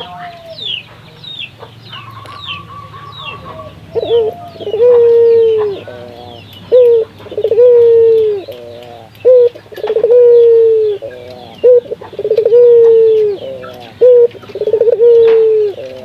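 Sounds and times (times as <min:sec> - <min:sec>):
dove cooing: 0:00.0 - 0:16.0
small birds chirping: 0:00.0 - 0:16.0.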